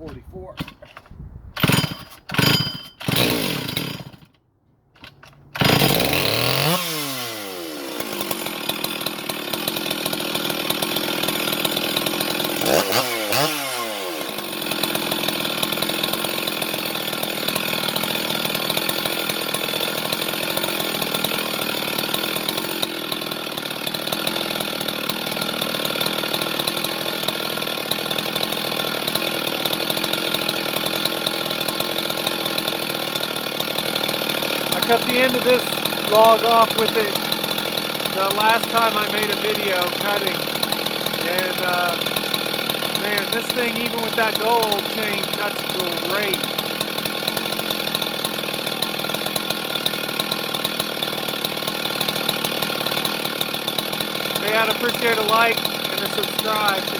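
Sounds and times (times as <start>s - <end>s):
chainsaw engine sputtering: 0.0s - 4.4s, 5.0s - 56.9s
chainsaw revving and idling: 1.6s - 4.4s, 5.0s - 56.9s.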